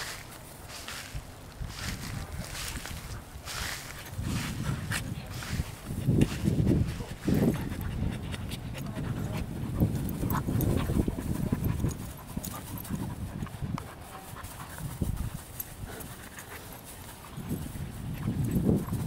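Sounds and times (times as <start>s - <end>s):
dogs panting: 2.4s - 19.0s.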